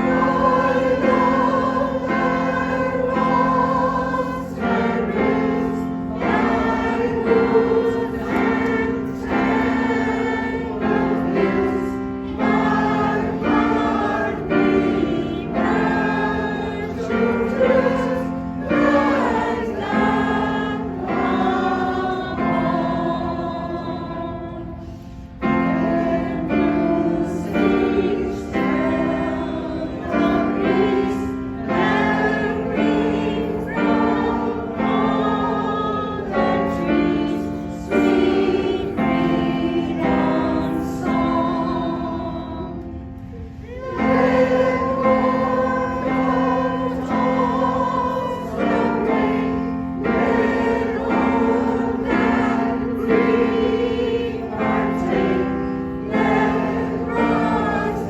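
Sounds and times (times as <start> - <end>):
choir singing slow song: 0.0 - 58.0.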